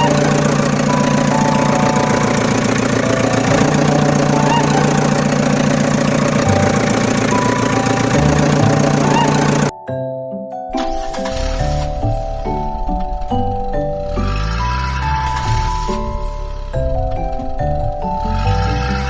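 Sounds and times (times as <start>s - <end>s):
engine knocking rhythmically: 0.0s - 9.7s, 10.9s - 19.0s
held musical notes: 0.0s - 19.0s.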